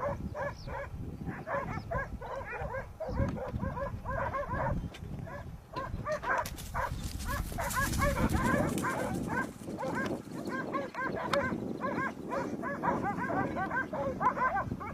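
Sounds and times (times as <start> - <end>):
dogs barking high-pitched: 0.0 - 14.9.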